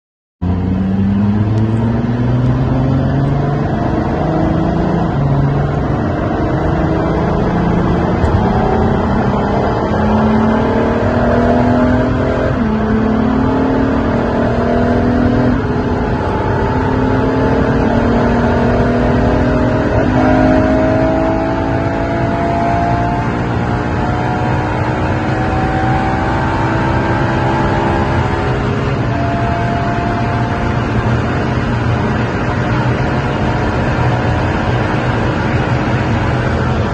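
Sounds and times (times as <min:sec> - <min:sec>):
car engine accelerating hard: 0:00.4 - 0:36.9
wind and road noise: 0:00.4 - 0:36.9.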